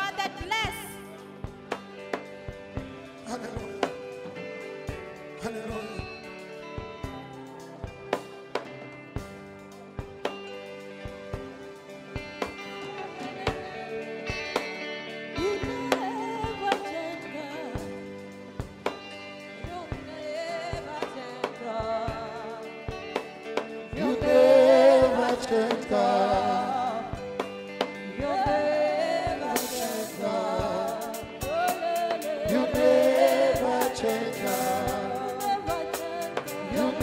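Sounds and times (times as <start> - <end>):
gospel singing with instruments: 0.0 - 37.0.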